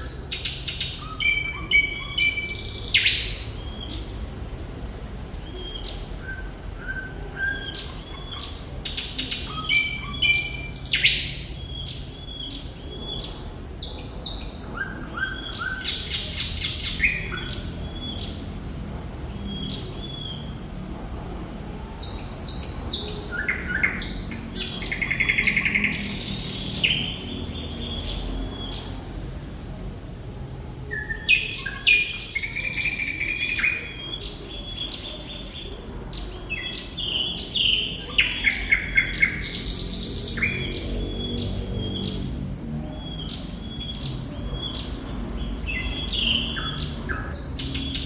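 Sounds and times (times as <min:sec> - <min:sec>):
nightingale singing: 0:00.0 - 0:04.4, 0:05.3 - 0:18.6, 0:21.7 - 0:29.1, 0:30.2 - 0:48.0.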